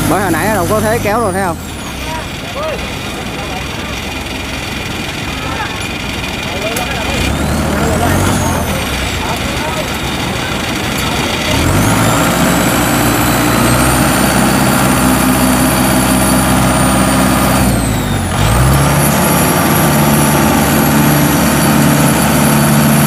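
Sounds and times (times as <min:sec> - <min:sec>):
engine revving under strain: 0:00.0 - 0:02.4, 0:05.0 - 0:23.0.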